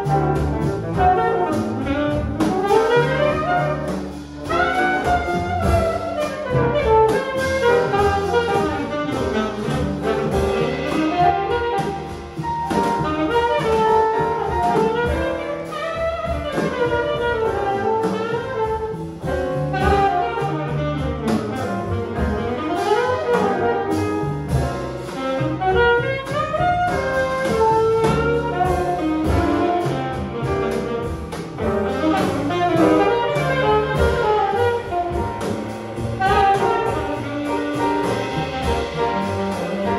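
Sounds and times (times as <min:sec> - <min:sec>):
double bass: 0:00.0 - 0:39.9
drums: 0:00.0 - 0:39.9
piano: 0:00.0 - 0:39.9
saxophone solo: 0:00.0 - 0:39.9.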